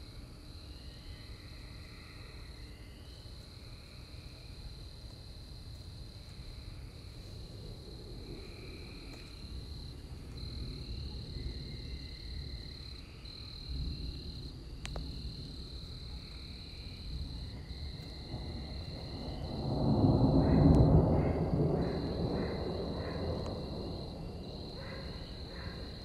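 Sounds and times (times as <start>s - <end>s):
insects trilling: 0.0s - 26.0s
faint low rumble: 4.1s - 26.0s.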